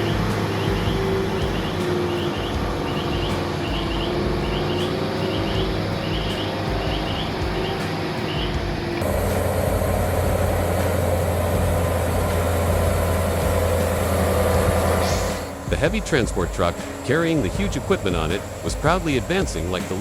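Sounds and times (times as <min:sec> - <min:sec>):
heavy truck engine running: 0:00.0 - 0:20.0.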